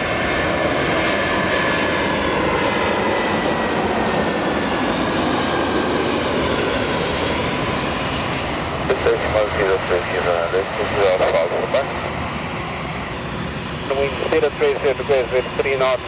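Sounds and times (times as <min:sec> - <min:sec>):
jet engines passing: 0:00.0 - 0:16.0.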